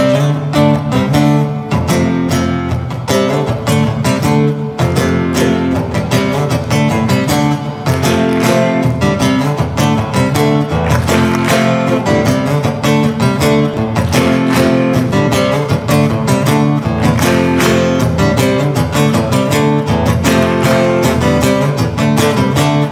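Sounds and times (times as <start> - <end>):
acoustic guitar strumming chords: 0.0 - 22.9.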